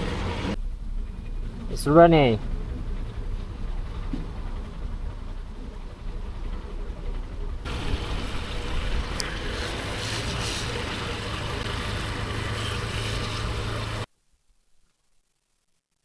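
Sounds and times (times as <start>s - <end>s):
motorbike engine hum: 0.0s - 14.1s
wind and road noise: 0.0s - 14.1s.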